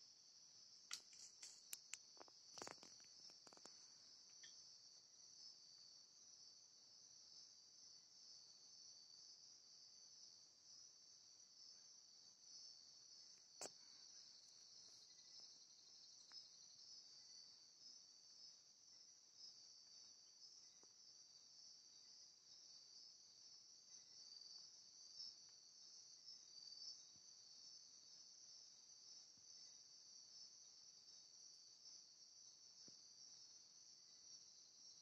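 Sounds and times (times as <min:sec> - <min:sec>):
night insects chorus: 0:00.0 - 0:35.0.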